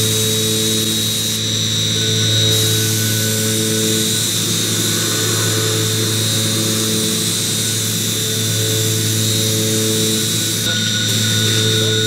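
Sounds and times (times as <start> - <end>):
milling machine hum and whine: 0.0 - 12.0.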